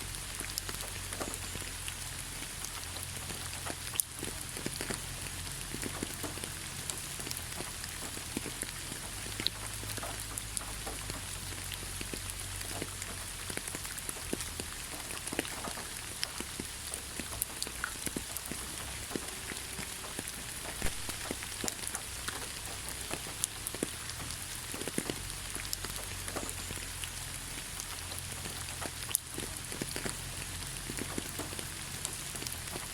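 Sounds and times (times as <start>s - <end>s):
rain pattering on hard surface: 0.0s - 32.9s.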